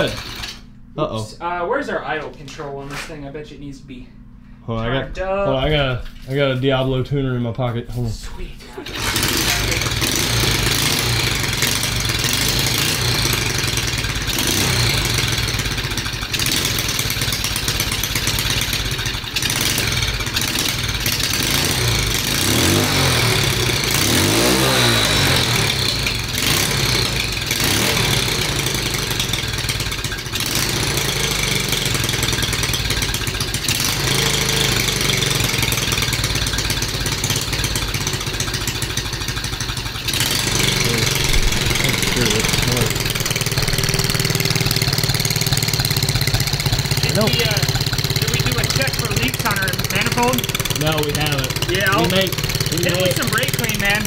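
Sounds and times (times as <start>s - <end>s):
mini bike engine idling: 0.0s - 0.6s, 8.8s - 54.0s.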